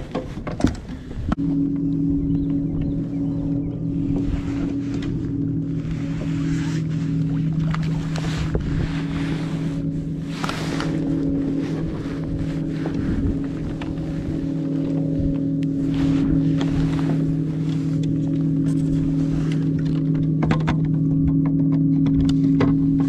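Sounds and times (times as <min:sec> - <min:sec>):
wind on microphone: 0:00.0 - 0:23.0
electric trolling motor humming: 0:00.8 - 0:23.0.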